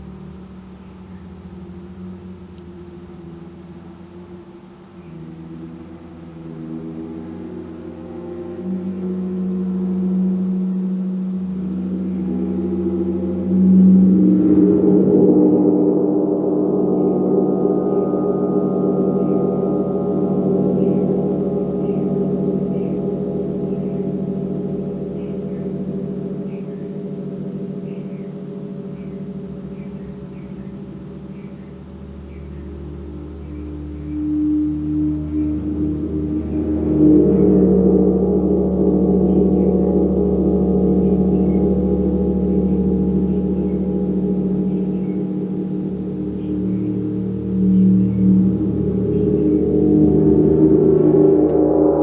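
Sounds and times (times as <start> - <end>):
large gong ringing: 0.0 - 52.0.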